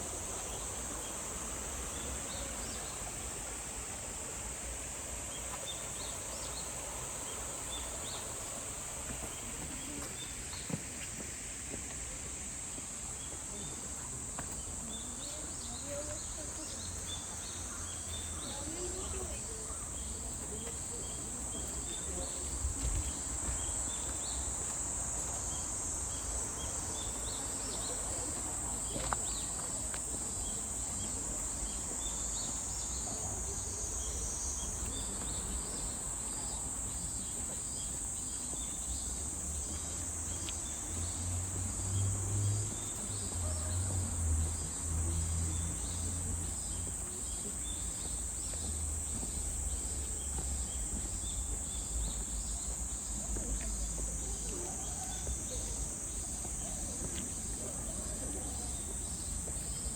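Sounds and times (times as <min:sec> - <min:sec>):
insect chirp: 0:00.0 - 0:59.9
insects buzzing: 0:00.0 - 0:59.9.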